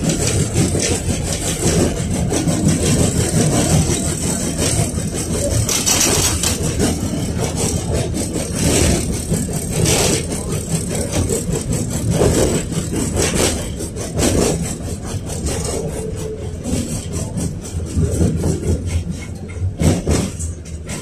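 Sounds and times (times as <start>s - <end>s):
tram body rattling and clicking: 0.0s - 21.0s
tram running gear rumbling: 0.0s - 21.0s.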